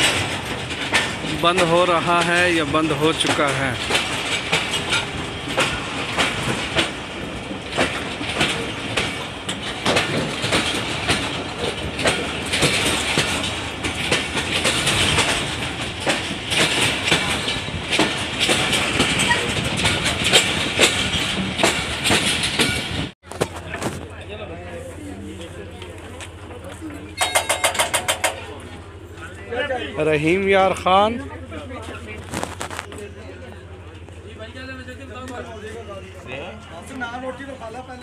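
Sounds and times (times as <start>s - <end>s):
clickety-clack of rail joints: 0.0s - 38.0s
train wheels rumbling on track: 0.0s - 38.0s.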